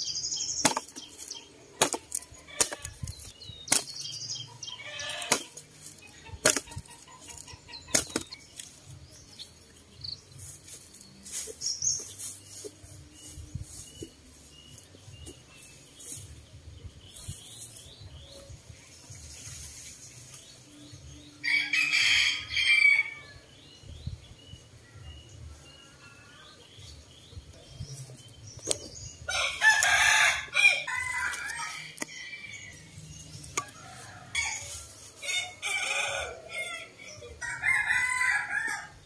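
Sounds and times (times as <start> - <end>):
small birds chirping: 0.0 - 21.8, 22.5 - 38.8.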